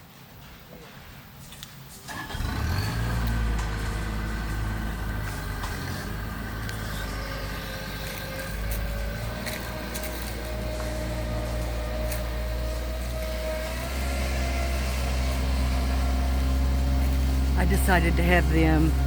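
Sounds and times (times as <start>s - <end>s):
large engine humming: 2.1s - 19.0s.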